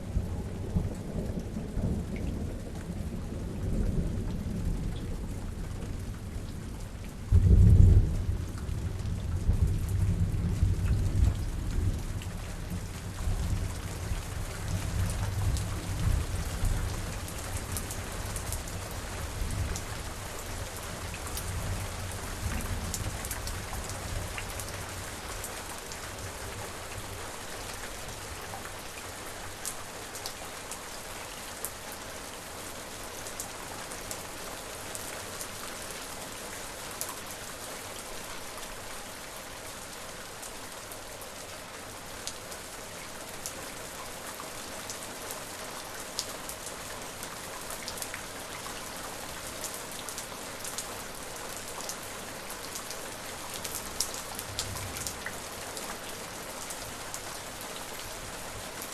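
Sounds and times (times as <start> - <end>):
rain drops tapping on a surface: 0.0 - 32.5, 39.9 - 58.9.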